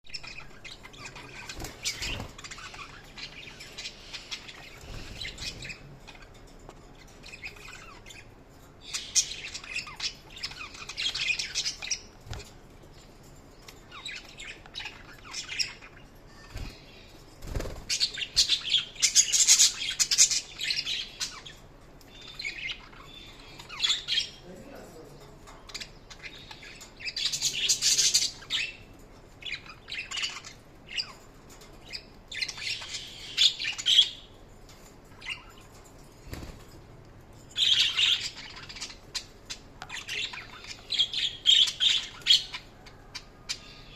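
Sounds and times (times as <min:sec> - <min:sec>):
budgerigars chirping and warbling: 0:00.1 - 0:36.7, 0:37.4 - 0:43.9.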